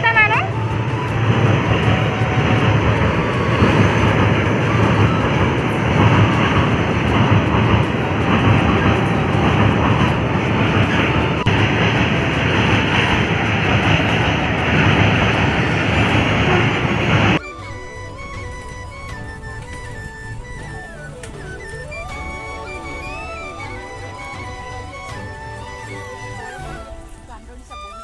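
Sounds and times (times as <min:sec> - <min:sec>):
train running on track: 0:00.0 - 0:28.0.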